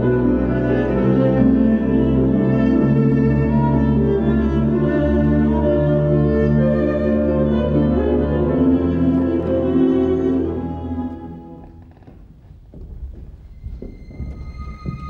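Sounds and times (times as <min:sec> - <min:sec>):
classical string music: 0:00.0 - 0:12.3.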